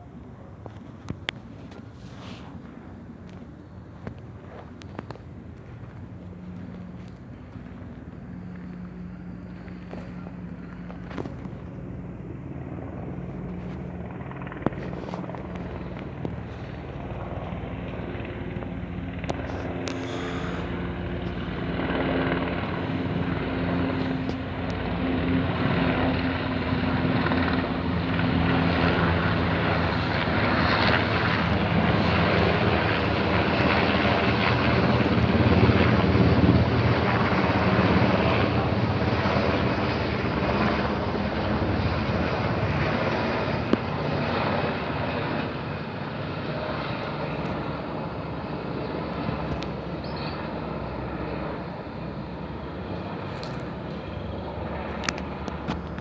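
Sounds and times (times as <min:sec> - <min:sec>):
helicopters flying over: 0:00.0 - 0:56.0.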